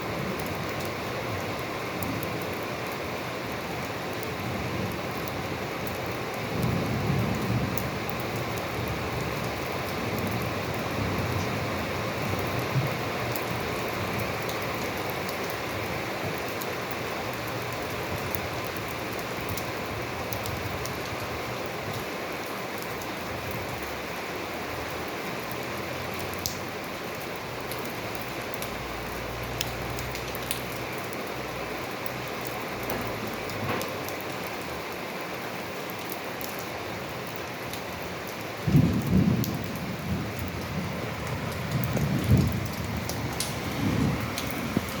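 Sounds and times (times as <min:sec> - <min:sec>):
steady rain hiss: 0:00.0 - 0:45.0.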